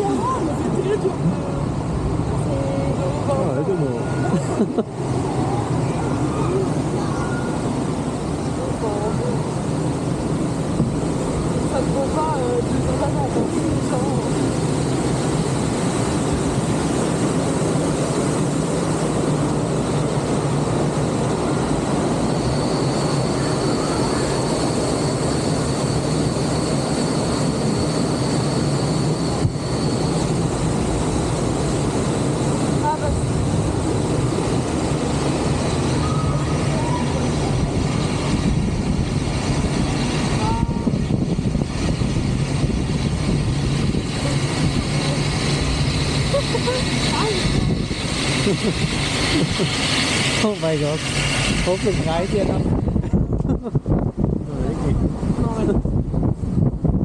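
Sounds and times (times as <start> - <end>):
faint high whine: 0.0 - 57.0
rushing water and wind: 0.0 - 57.0.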